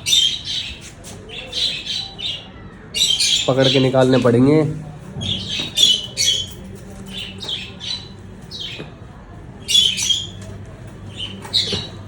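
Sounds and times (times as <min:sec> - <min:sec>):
birds squawking: 0:00.0 - 0:09.0, 0:09.6 - 0:12.0.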